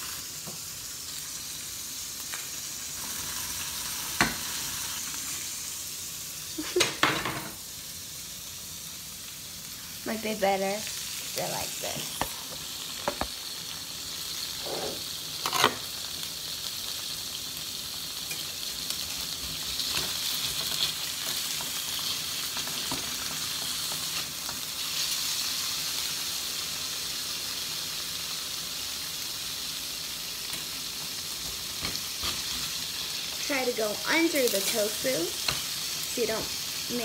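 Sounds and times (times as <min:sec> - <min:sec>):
tofu sizzling in oil: 0:00.0 - 0:37.0.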